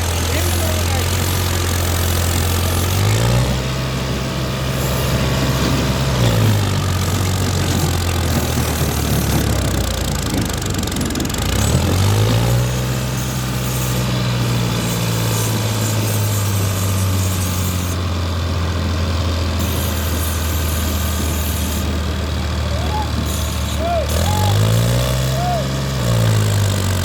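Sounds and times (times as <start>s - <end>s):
tractor diesel engine revving: 0.0s - 27.0s.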